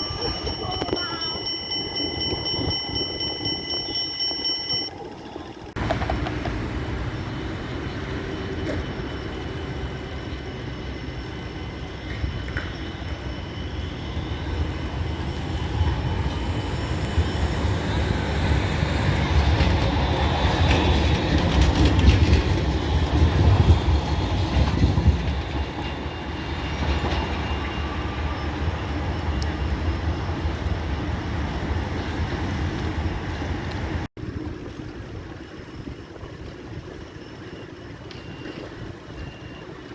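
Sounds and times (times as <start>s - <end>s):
tram rumbling on rails: 0.0s - 39.9s.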